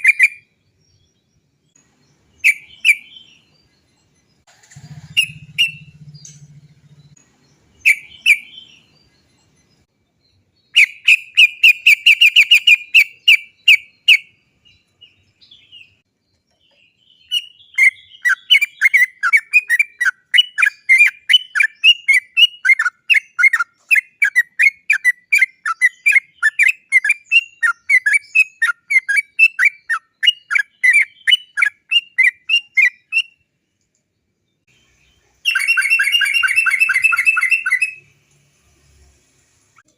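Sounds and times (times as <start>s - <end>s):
bird chattering song: 0.0s - 33.5s, 34.5s - 38.1s.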